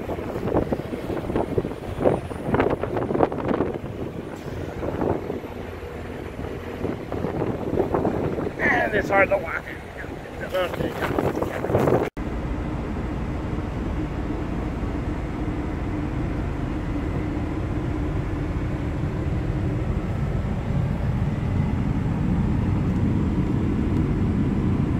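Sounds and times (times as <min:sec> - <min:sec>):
truck engine rumbling: 0:00.0 - 0:24.9.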